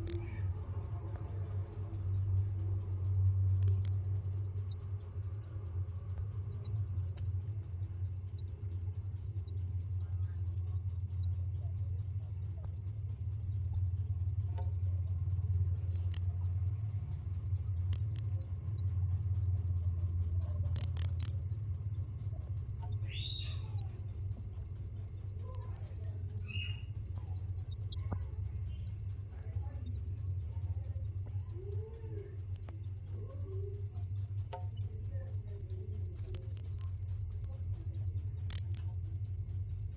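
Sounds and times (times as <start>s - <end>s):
cricket chirping: 0.0s - 39.9s
faint low hum: 0.0s - 39.9s.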